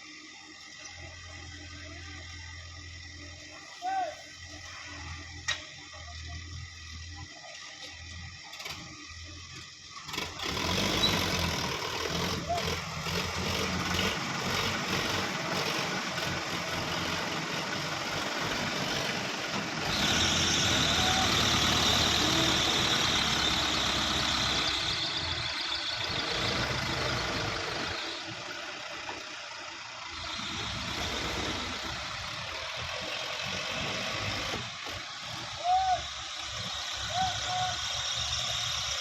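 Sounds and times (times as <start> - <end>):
diesel farm vehicle engine running: 0.0 - 39.0.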